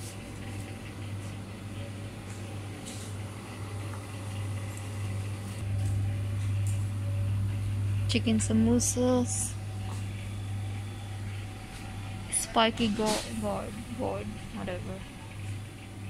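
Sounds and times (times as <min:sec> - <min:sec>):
freezer compressors humming: 0:00.0 - 0:16.0.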